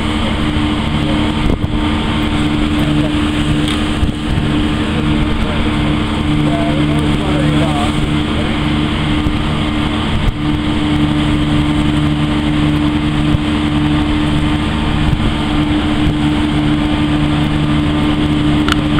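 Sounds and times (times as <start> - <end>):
ferry engines droning: 0.0 - 18.9
wind and sea rushing: 0.0 - 18.9.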